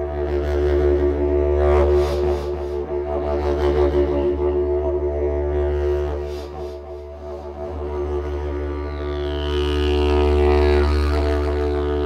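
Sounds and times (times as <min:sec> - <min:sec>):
didgeridoo drone: 0:00.0 - 0:12.0.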